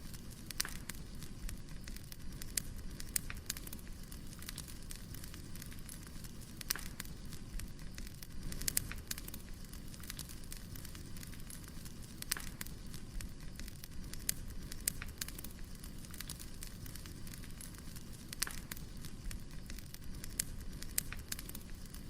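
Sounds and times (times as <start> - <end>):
low rumble of fire: 0.0 - 22.0
wood fire crackling and popping: 0.0 - 22.0.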